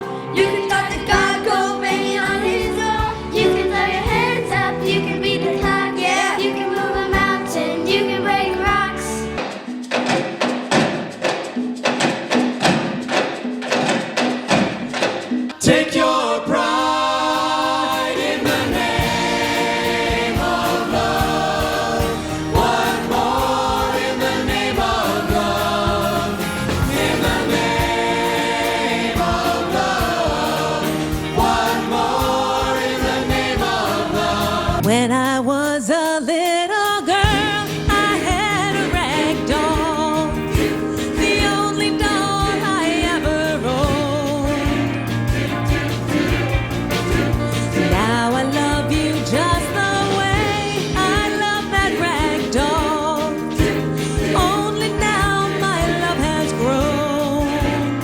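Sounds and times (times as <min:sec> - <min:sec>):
choir singing: 0:00.0 - 0:11.1, 0:15.1 - 0:35.1, 0:37.1 - 0:58.0
rhythmic sharp strokes: 0:00.0 - 0:58.0.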